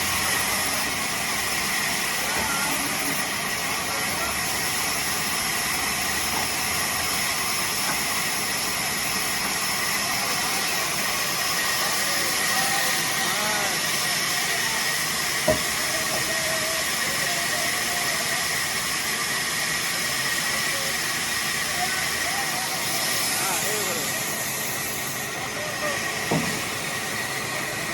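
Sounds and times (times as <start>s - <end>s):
machine hiss with whine: 0.0s - 27.9s.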